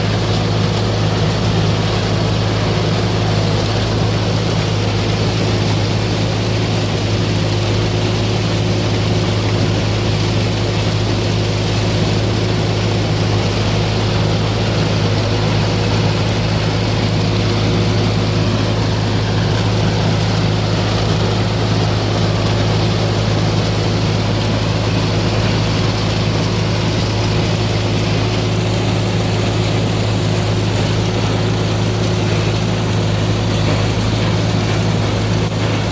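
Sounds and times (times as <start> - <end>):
machine hum: 0.0 - 35.9.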